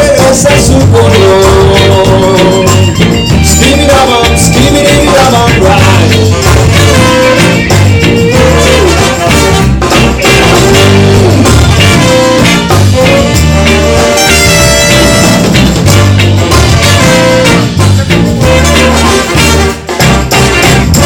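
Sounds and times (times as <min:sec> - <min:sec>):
reggae band playing: 0:00.0 - 0:21.0.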